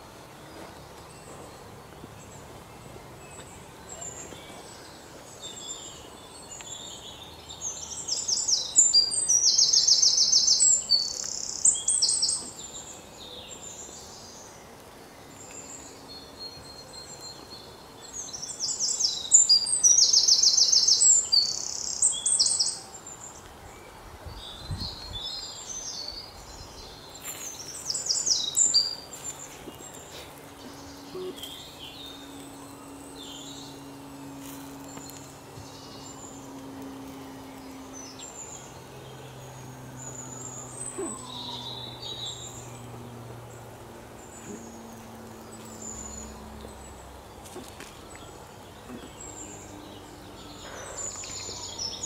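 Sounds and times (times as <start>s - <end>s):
faint outdoor background: 0.0s - 52.0s
songbird singing: 0.0s - 52.0s.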